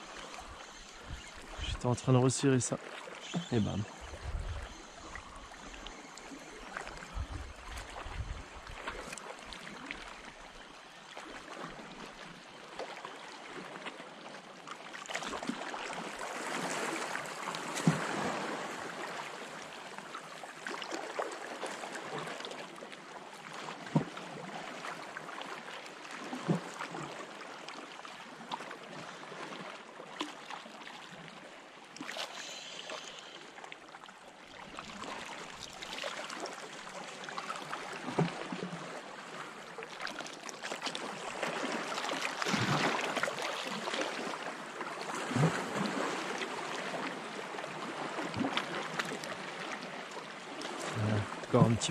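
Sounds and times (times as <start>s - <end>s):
water sloshing and splashing: 0.0s - 51.9s.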